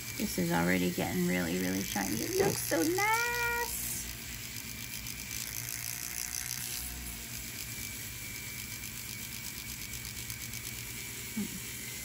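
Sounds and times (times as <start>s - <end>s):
rotary tool whirring: 0.0s - 12.0s.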